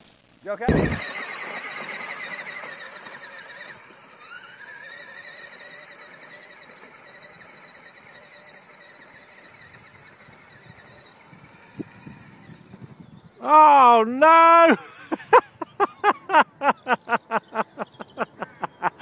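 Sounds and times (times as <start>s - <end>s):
toy electric motor whining: 0.7s - 13.5s, 14.8s - 19.0s.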